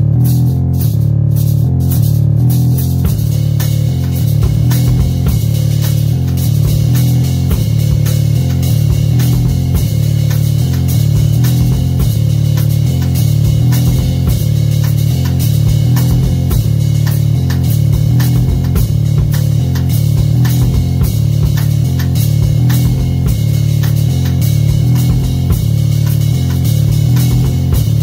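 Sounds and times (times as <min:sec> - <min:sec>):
drum kit playing: 0:00.0 - 0:28.0
rock music bass line: 0:00.0 - 0:28.0.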